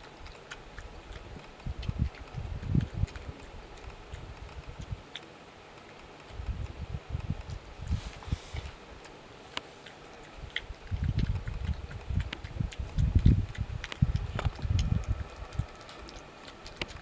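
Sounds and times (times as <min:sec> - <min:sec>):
animal crunching and chewing: 0:00.0 - 0:17.0.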